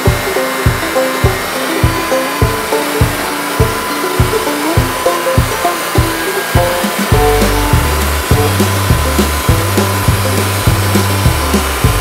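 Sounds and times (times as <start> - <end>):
gasoline engine running: 0.0 - 12.0
music with beat and bass: 0.0 - 12.0.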